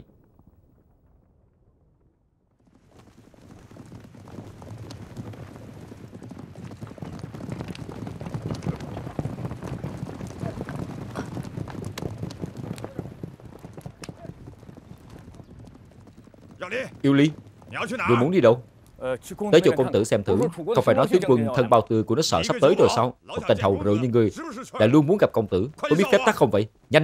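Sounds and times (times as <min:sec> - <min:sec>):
horse hooves clattering: 0:02.7 - 0:26.6.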